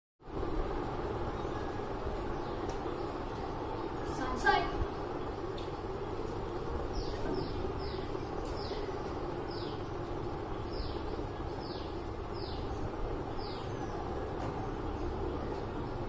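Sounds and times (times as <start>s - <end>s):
steady background noise: 0.2s - 16.0s.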